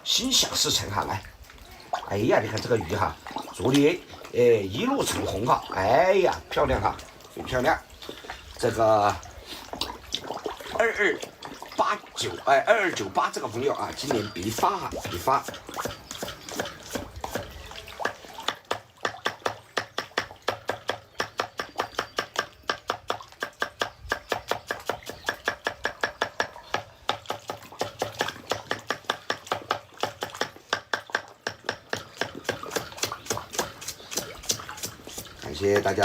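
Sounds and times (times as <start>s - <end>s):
water splashing rhythmically: 0.0s - 36.0s.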